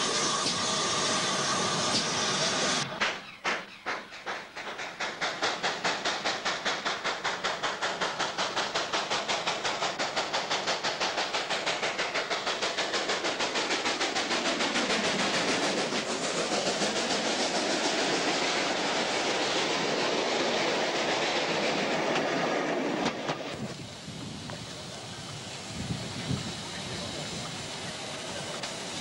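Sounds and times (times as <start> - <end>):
steam locomotive exhaust beats: 0.0 - 29.0
train passing close: 0.0 - 29.0.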